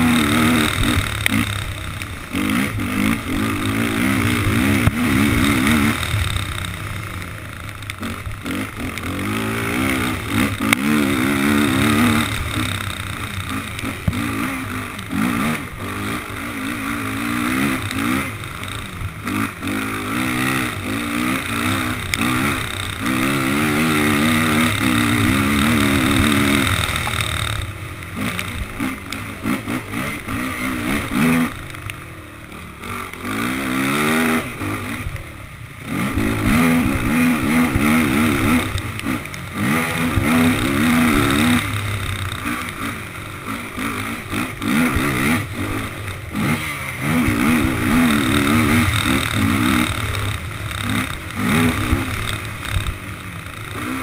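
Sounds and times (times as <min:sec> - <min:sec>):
quad engine revving hard: 0:00.0 - 0:06.8, 0:07.9 - 0:31.7, 0:32.7 - 0:35.2, 0:35.8 - 0:54.0.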